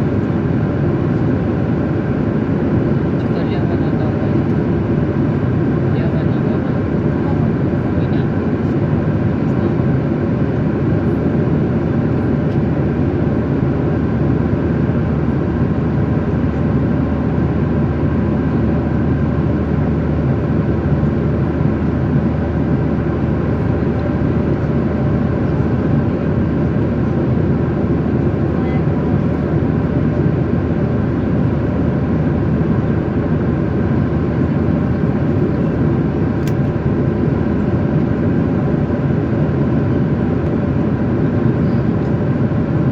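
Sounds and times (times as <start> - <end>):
jet engines and airflow rumble: 0.0 - 42.9.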